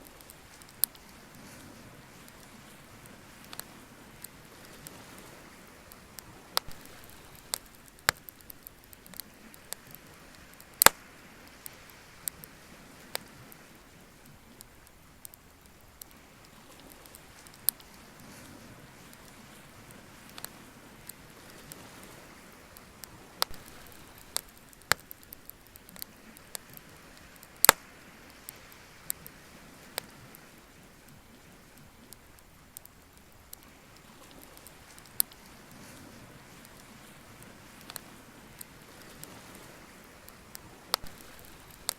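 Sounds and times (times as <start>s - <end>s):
steady hiss: 0.0s - 41.9s
wood fire crackling: 0.0s - 41.9s.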